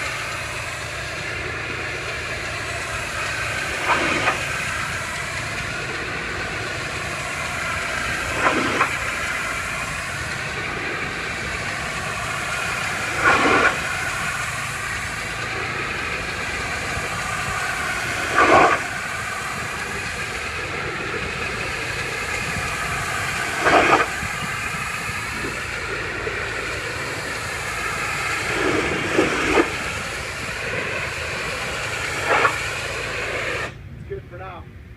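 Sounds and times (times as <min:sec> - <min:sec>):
pressure washer spraying: 0:00.0 - 0:33.8.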